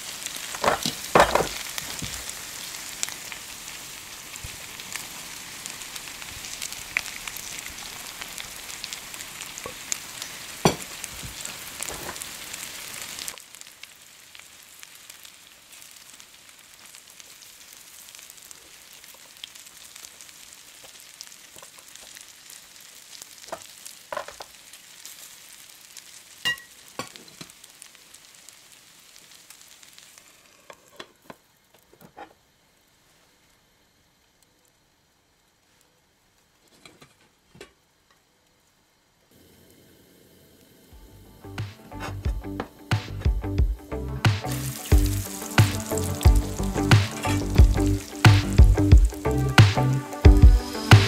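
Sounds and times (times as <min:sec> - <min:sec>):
food sizzling in frying pan: 0:00.0 - 0:34.8, 0:37.8 - 0:51.0.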